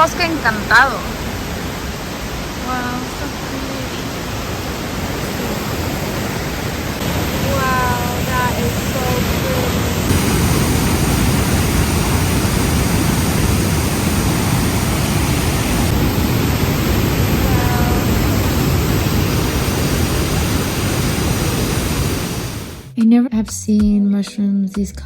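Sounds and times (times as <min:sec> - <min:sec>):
water rushing: 0:00.0 - 0:22.9.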